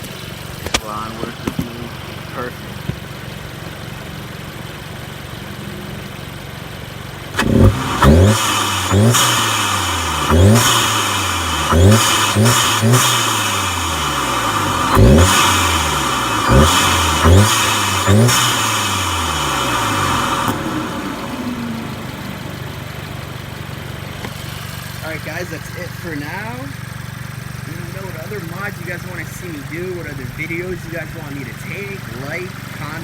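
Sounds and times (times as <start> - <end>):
car engine revving: 0.0 - 33.0
intake rush: 0.0 - 33.0.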